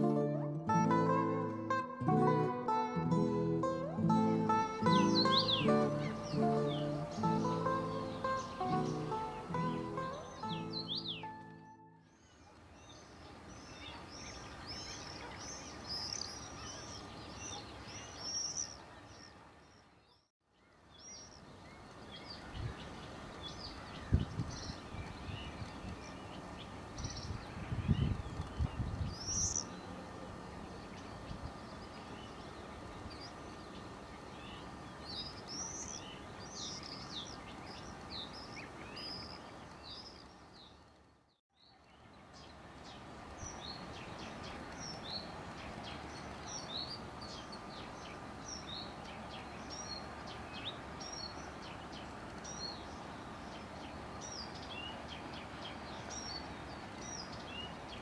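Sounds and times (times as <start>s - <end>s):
small birds chirping: 4.2s - 11.5s, 12.2s - 58.0s.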